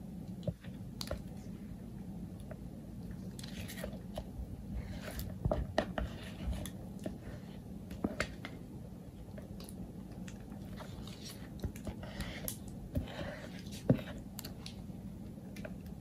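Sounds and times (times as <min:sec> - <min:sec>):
soft clicks and squishes: 0:00.2 - 0:01.6, 0:02.3 - 0:14.9, 0:15.5 - 0:16.0.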